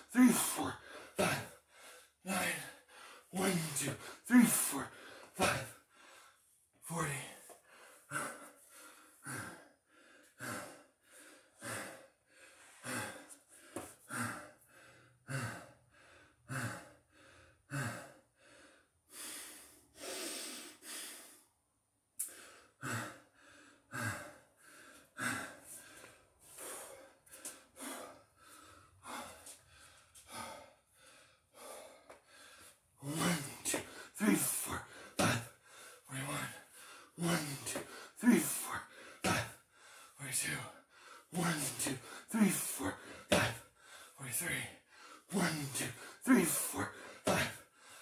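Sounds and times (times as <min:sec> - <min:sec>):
man breathing heavily: 0:00.0 - 0:48.0.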